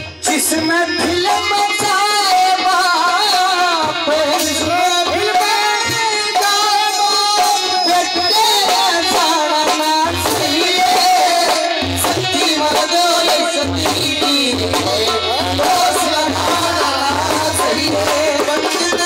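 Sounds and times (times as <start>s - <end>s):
dholak drum beating: 0.0s - 19.0s.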